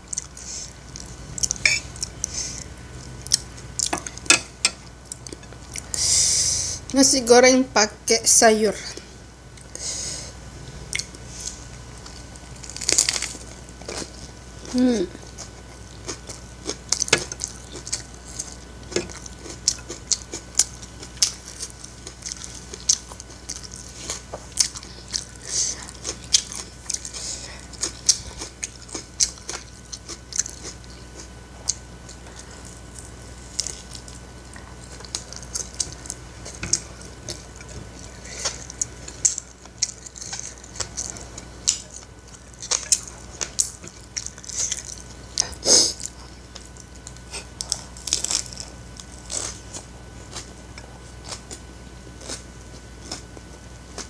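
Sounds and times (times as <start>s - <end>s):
chewing with wet crunches: 0.0s - 6.0s, 10.8s - 54.0s
steady low hum: 0.0s - 54.0s.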